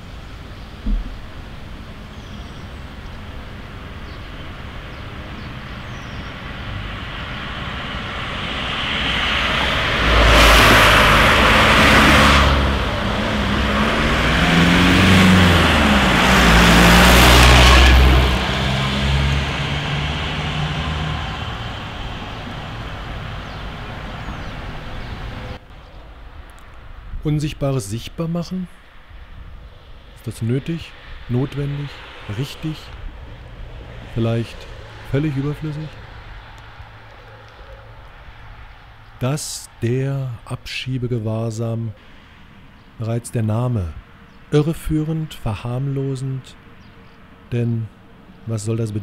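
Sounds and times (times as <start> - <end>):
heavy vehicle passing: 0.0 - 27.1, 28.7 - 41.3
road noise: 0.0 - 49.0.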